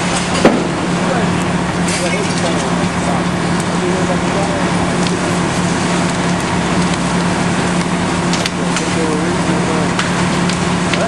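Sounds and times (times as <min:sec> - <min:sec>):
fire cracking: 0:00.0 - 0:11.0
fire engine pump humming: 0:00.0 - 0:11.0.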